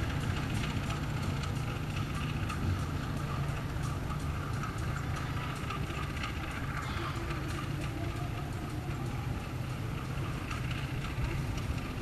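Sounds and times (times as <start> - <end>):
locomotive engine droning: 0.0 - 12.0.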